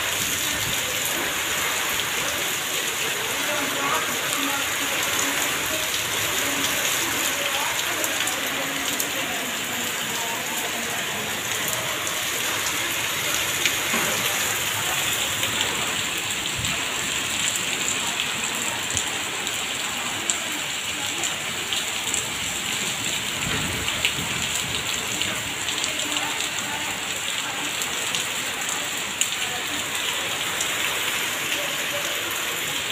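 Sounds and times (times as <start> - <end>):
heavy rain pouring: 0.0 - 32.9
water gushing from a drainpipe: 0.0 - 32.9.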